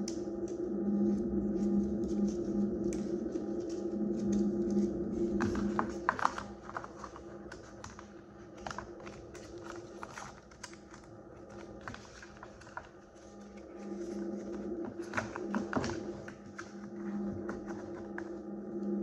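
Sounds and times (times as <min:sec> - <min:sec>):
hands handling paper packaging: 0:00.0 - 0:18.4
low hum: 0:00.0 - 0:19.0.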